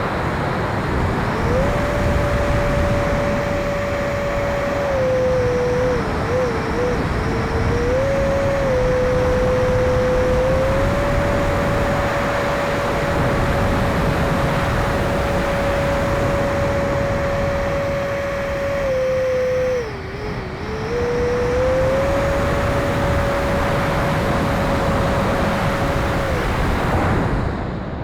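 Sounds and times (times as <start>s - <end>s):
electric ducted fan whine: 0.0s - 28.0s.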